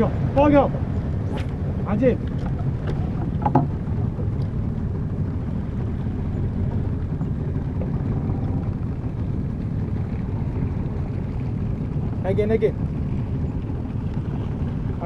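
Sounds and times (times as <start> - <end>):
boat motor rumbling: 0.0 - 15.0
water noise: 0.0 - 15.0
wind: 0.0 - 15.0.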